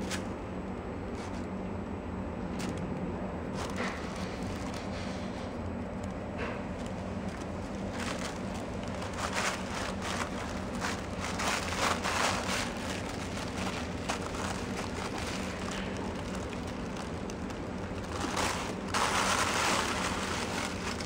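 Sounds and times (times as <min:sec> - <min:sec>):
steady low hum: 0:00.0 - 0:21.0
foil and paper crinkling: 0:03.5 - 0:21.0.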